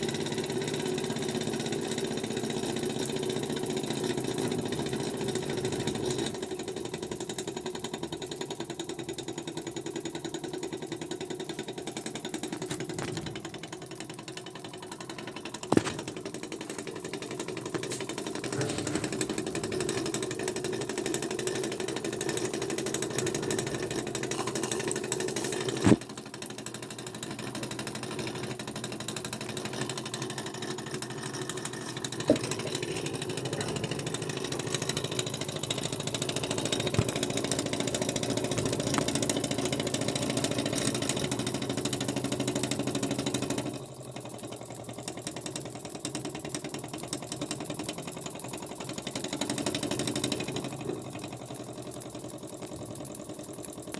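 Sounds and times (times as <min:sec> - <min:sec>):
toy steam engine clattering: 0:00.0 - 0:53.9.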